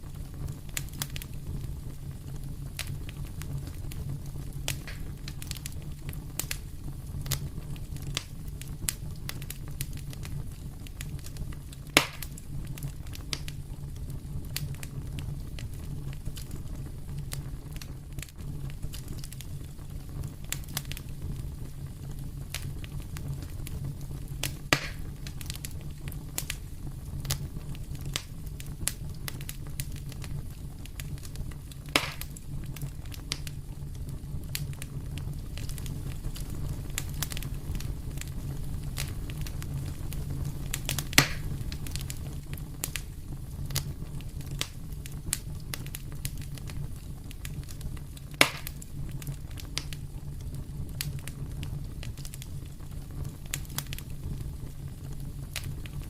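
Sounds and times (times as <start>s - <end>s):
loud fire pops: 0.0s - 56.0s
wood fire crackling: 0.0s - 56.0s.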